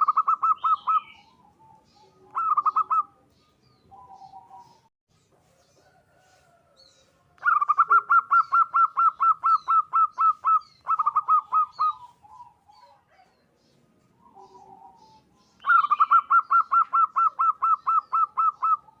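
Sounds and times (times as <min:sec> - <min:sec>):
dove cooing: 0:00.0 - 0:04.9, 0:07.4 - 0:19.0
faint small birds chirping: 0:00.0 - 0:19.0.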